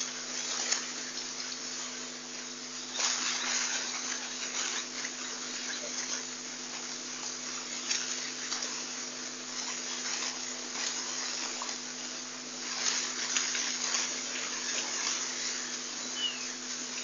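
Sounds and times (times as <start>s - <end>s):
background hiss: 0.0s - 17.0s
low even hum: 0.0s - 17.0s.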